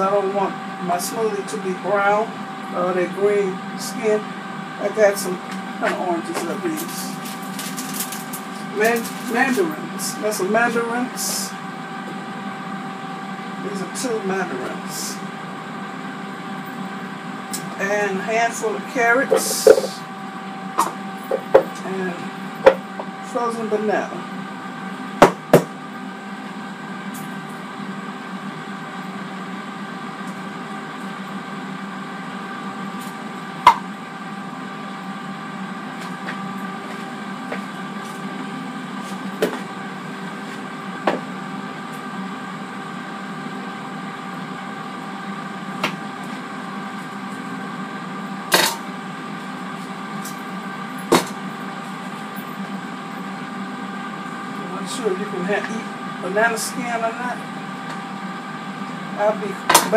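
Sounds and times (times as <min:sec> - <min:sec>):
air fryer fan humming: 0:00.0 - 0:59.9.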